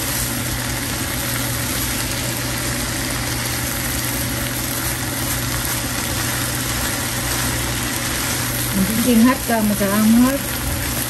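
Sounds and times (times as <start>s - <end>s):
rice sizzling in a pan: 0.0s - 11.0s
spatula stirring in pan: 0.0s - 11.0s.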